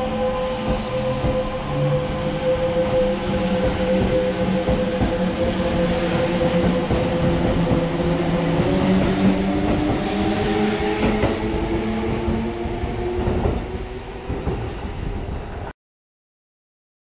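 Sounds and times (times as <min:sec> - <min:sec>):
rail noise: 0:00.0 - 0:15.7.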